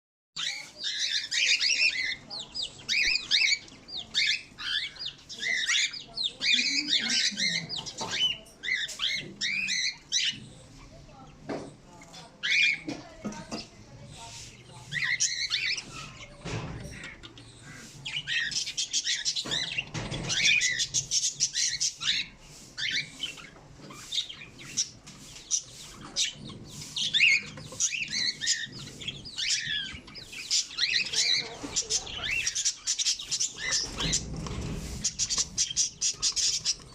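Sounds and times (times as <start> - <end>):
parrots chirping and squawking: 0.4 - 36.9.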